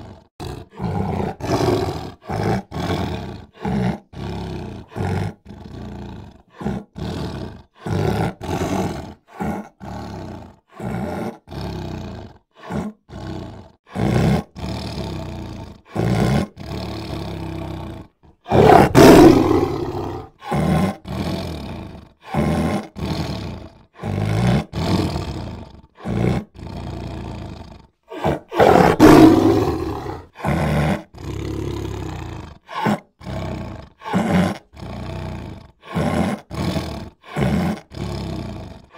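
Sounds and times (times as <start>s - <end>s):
big cats roaring and growling: 0.0s - 38.9s.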